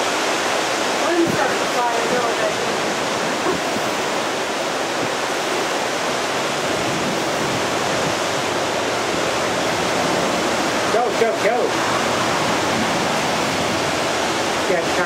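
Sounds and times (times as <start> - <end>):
blowing rain: 0.0 - 15.0
strong wind rushing through trees: 0.0 - 15.0.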